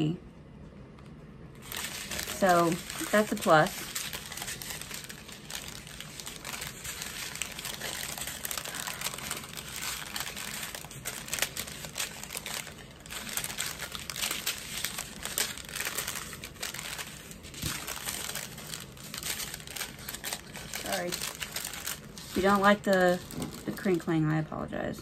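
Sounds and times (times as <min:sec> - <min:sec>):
plastic bags crinkling: 0:01.6 - 0:24.2.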